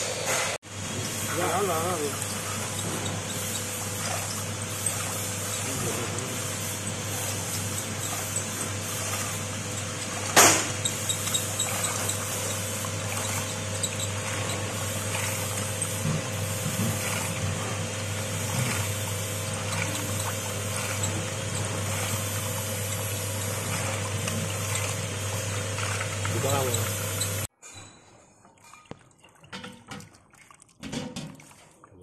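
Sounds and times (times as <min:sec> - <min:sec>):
machine motor hum: 0:00.7 - 0:27.5.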